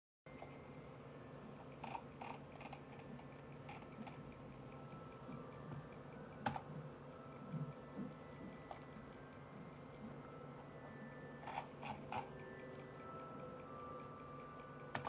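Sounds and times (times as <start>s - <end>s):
low room hum: 0.3s - 15.0s.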